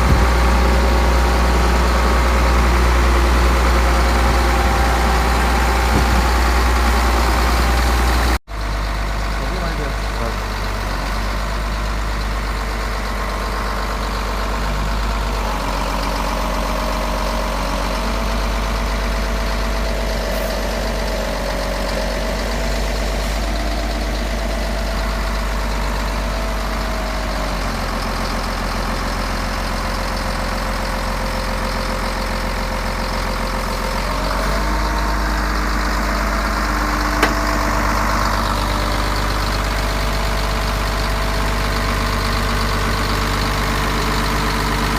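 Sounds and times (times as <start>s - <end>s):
diesel engine running near idle: 0.0s - 44.9s.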